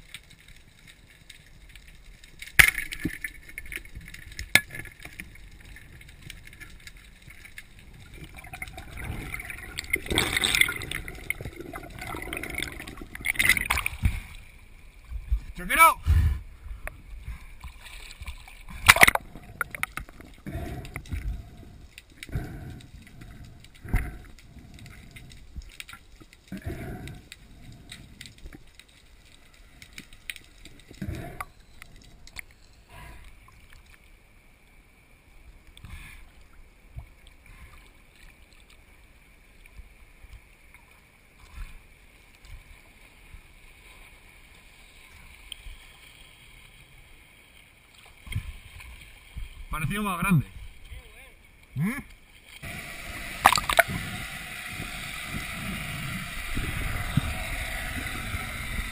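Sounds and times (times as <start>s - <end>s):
sea water sloshing and gurgling: 0.0s - 34.4s, 35.6s - 58.9s.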